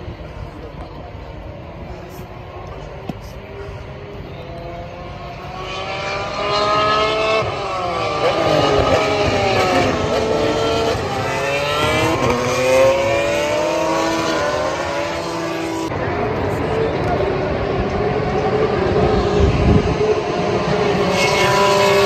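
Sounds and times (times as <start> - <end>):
racing cars passing at speed: 0.1 - 22.0.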